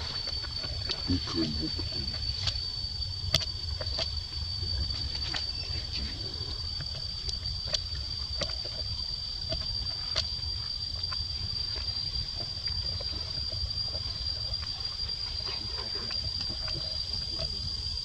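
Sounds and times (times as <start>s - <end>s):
constant low rumble: 0.0s - 18.0s
steady high-pitched whine: 0.0s - 18.0s.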